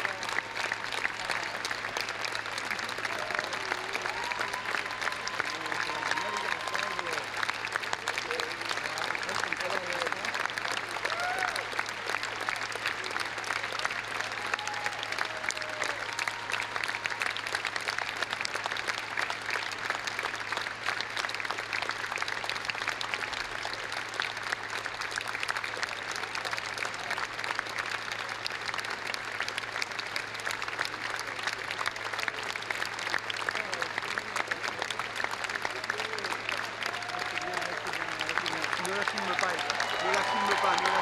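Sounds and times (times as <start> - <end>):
audience applauding: 0.0 - 41.0.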